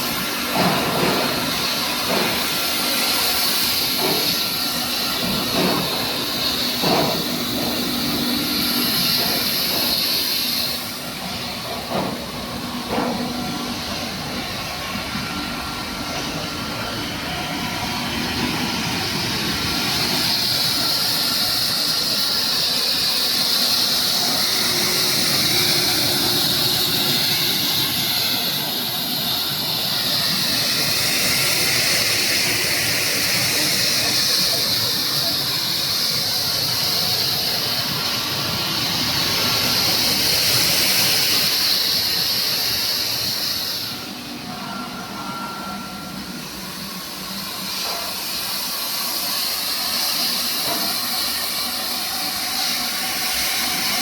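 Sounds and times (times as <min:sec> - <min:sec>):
high-pressure water spray hissing: 0:00.0 - 0:44.2, 0:46.4 - 0:54.0.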